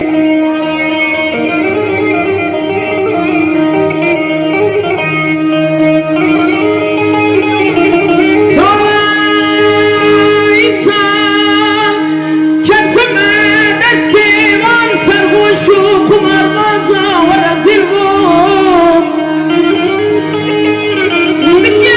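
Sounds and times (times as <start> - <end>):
instrumental drone: 0.0 - 21.9
person singing long ornamented notes: 0.0 - 21.9.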